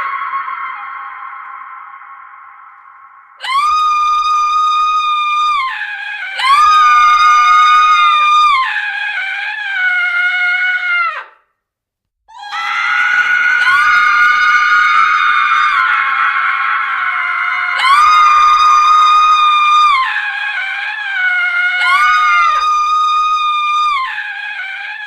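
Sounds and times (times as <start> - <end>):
woman screaming: 0.0 - 2.6, 3.4 - 11.4, 12.3 - 25.0
lower scream: 0.0 - 11.4, 12.3 - 25.0.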